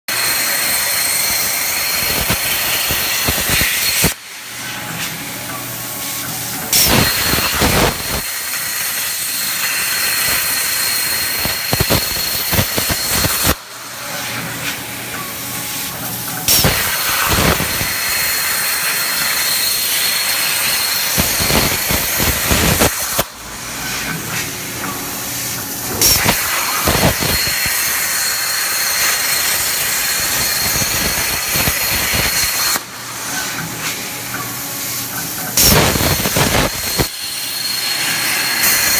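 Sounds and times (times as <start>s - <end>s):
plasma cutter torch hissing: 0.1s - 4.2s, 6.6s - 13.6s, 15.8s - 24.4s, 25.2s - 33.3s, 34.8s - 38.9s.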